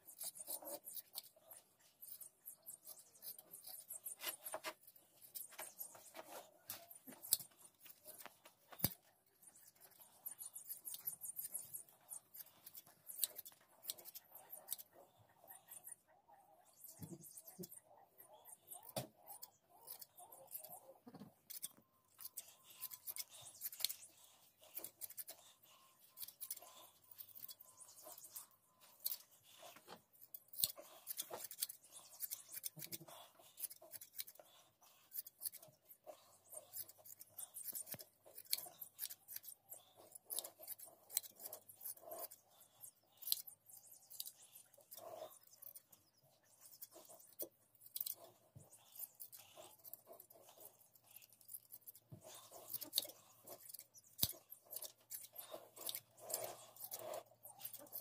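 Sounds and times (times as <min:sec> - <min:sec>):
shears snipping wool: 0:00.0 - 0:15.9, 0:18.5 - 0:43.5, 0:46.6 - 0:58.0.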